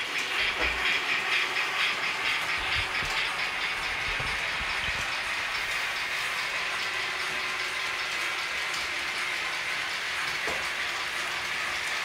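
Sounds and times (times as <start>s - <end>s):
model locomotive steam hiss and chuffs: 0.0s - 12.0s.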